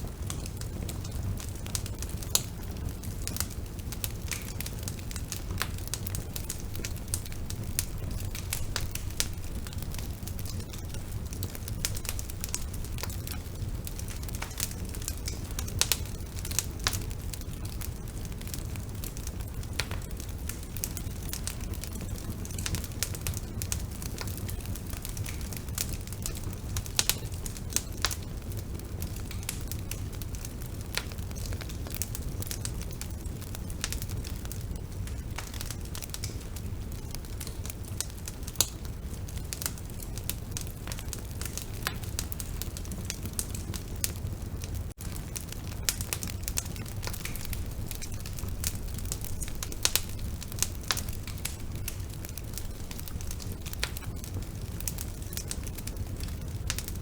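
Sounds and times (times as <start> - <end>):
bonfire flames rumbling: 0.0 - 57.0
burning wood crackling: 0.0 - 57.0.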